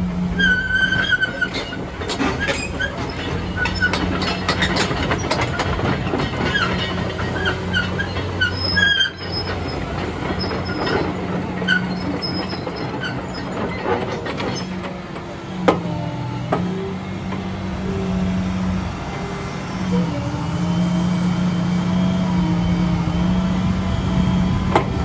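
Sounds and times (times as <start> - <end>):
diesel engine running: 0.0 - 25.0
track chains squeaking and clanking: 0.3 - 25.0.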